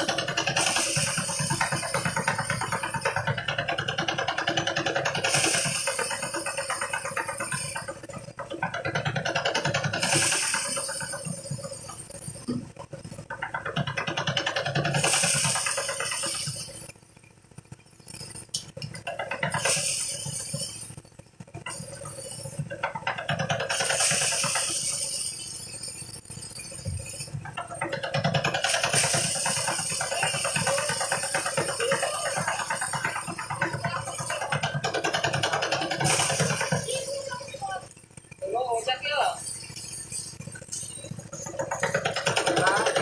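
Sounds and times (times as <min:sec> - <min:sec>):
threshing machine rattling drone: 0:00.0 - 0:43.0.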